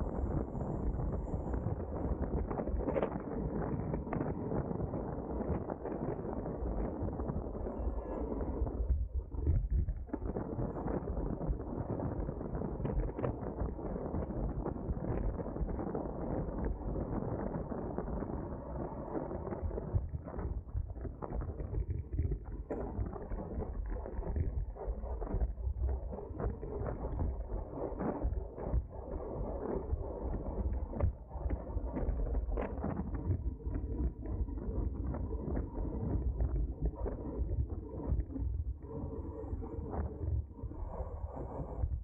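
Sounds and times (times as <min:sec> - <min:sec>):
wind and road rumble: 0:00.0 - 0:42.0.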